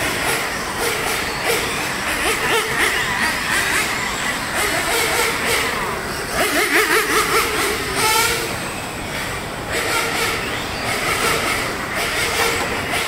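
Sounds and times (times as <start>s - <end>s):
small model car engines revving: 0.0s - 13.0s.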